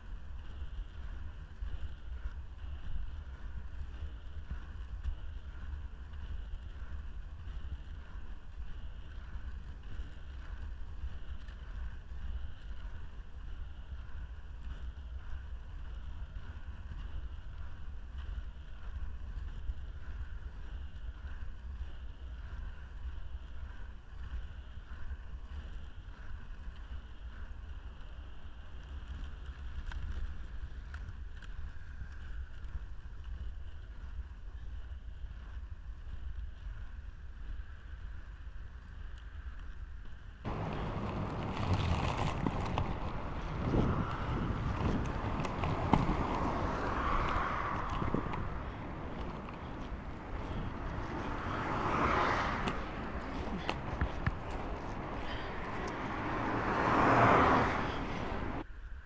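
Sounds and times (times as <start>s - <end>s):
skate wheels rolling on asphalt: 0.0s - 59.0s.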